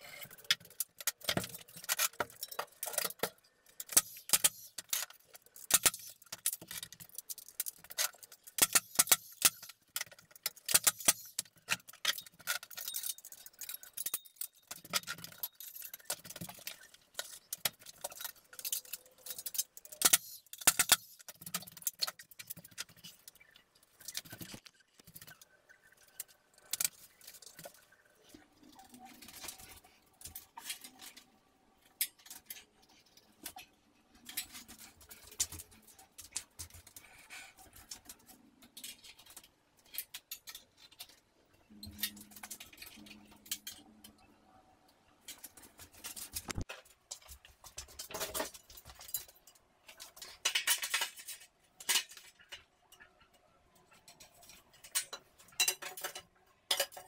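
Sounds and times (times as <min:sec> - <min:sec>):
metal parts clicking and clinking: 0:00.0 - 0:44.3, 0:45.2 - 0:57.0.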